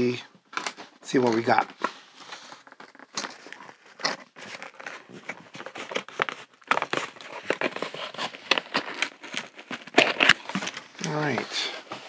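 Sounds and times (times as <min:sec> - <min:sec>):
packaging crinkling and rustling: 0:00.5 - 0:12.0.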